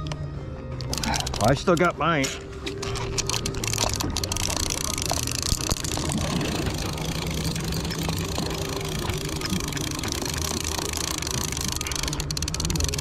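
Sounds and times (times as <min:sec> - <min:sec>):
fishing reel cranking: 0:00.8 - 0:01.9, 0:02.7 - 0:13.0.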